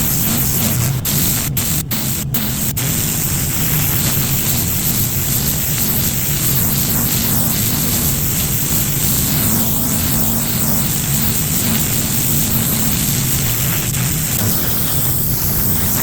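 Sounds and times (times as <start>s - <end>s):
high-pressure water spraying: 0.0s - 16.0s
pressure washer engine running: 0.0s - 16.0s.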